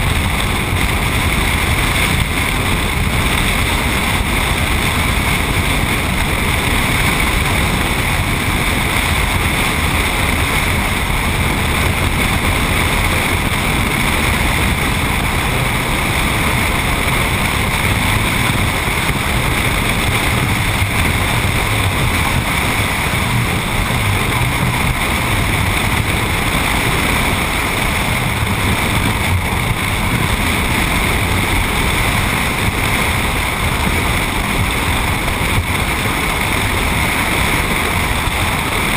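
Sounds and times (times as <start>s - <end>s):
tyre and road noise: 0.0s - 38.9s
wind rushing over microphone: 0.0s - 38.9s.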